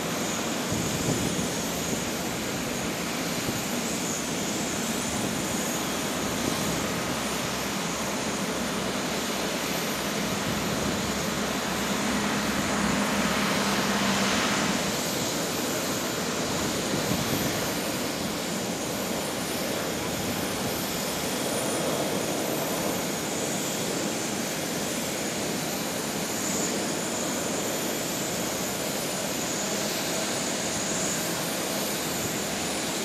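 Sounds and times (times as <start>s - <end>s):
jet engines rushing hiss: 0.0s - 33.0s.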